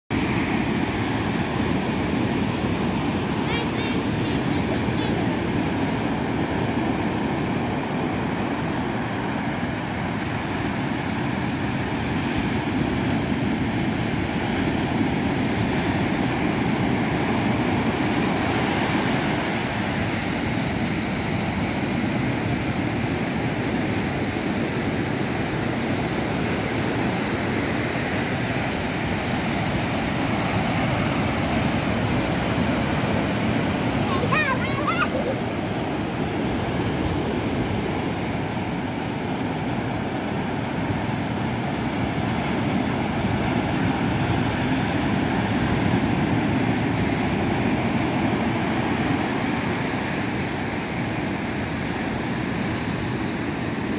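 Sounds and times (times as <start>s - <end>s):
ocean surf breaking on beach: 0.1s - 53.9s.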